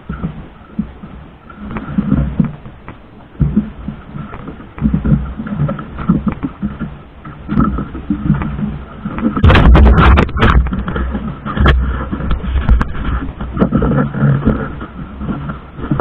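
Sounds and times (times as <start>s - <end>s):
boat engine low rumble: 0.0s - 16.0s
knocks and scrapes of rope handling: 1.5s - 16.0s.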